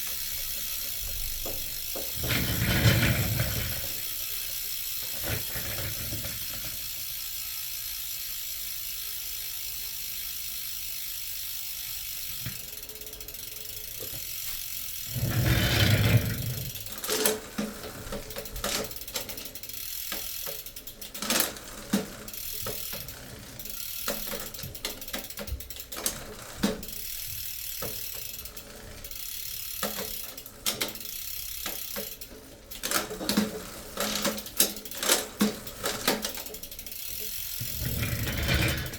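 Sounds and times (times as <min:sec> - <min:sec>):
chain drive whirring: 0:00.0 - 0:38.9
freewheel ratchet ticking: 0:00.0 - 0:38.9
chain and sprocket clunks: 0:00.1 - 0:07.1, 0:12.3 - 0:38.9.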